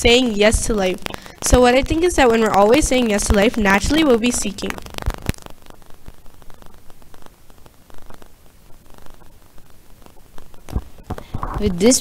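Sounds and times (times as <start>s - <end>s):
faint steady hiss: 0.0s - 12.0s
small clicks: 0.8s - 11.7s.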